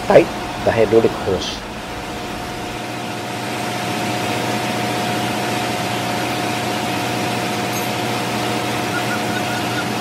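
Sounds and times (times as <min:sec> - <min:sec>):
engine room machinery drone: 0:00.0 - 0:10.0
mid-pitched hum: 0:00.0 - 0:10.0.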